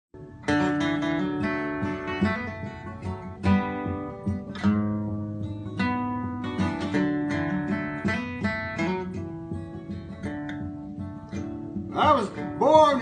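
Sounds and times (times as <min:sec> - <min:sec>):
acoustic guitar strumming and picking: 0:00.2 - 0:13.0.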